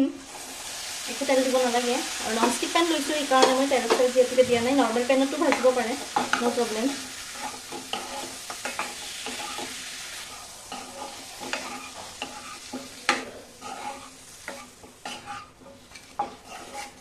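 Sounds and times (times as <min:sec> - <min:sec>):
chicken sizzling in a pan: 0:00.0 - 0:17.0
wooden spatula scraping a pan: 0:01.4 - 0:17.0.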